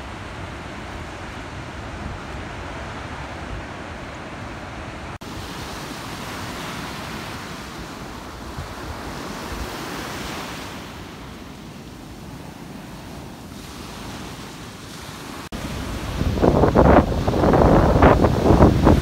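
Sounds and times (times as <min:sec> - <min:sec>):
ocean waves breaking: 0:00.0 - 0:19.0
wind on microphone: 0:00.0 - 0:19.0.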